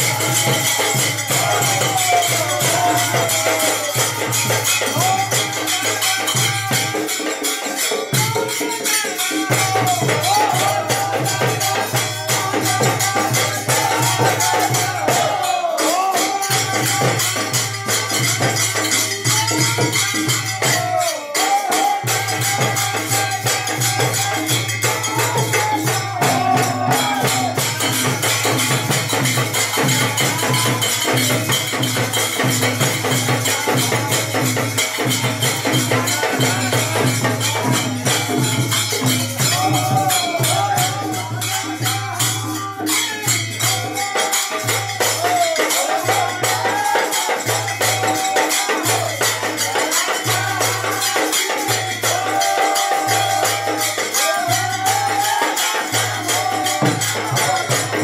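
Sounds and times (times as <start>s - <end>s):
hand cymbals clashing: 0.0s - 58.0s
hand drums beating: 0.0s - 58.0s
men singing: 0.0s - 58.0s.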